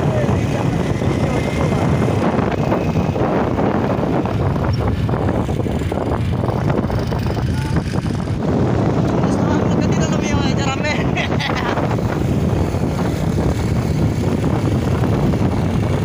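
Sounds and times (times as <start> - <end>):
small motorcycle engines running: 0.0 - 16.0
wind buffeting microphone: 0.0 - 16.0.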